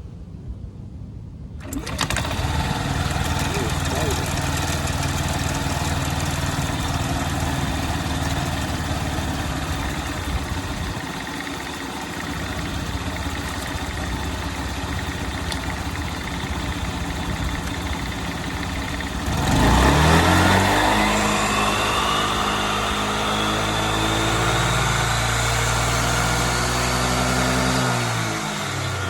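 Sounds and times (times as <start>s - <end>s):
scooter engine idling and revving: 1.6s - 29.0s.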